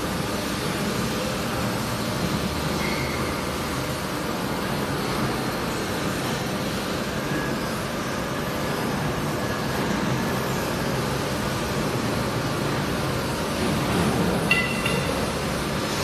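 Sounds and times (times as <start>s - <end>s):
factory machinery droning: 0.0s - 16.0s.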